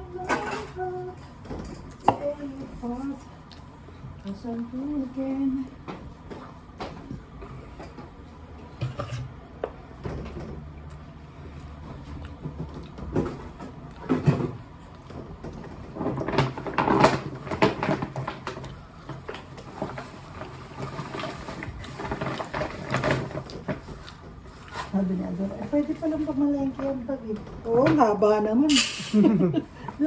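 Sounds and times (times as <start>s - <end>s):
clicks knocks and rustles while eating: 0.7s - 28.2s.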